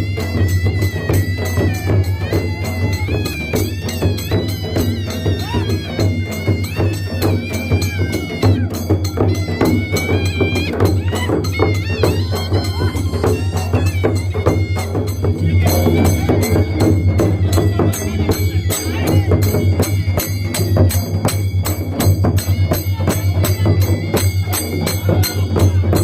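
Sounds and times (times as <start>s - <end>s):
fast drumming: 0.0s - 26.0s
jingling metal percussion: 0.0s - 26.0s
wavering high melody: 0.0s - 26.0s.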